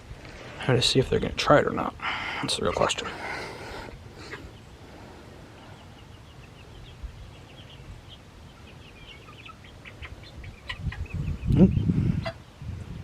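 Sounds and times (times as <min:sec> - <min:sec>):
chicks peeping and chirping: 0:02.5 - 0:13.0.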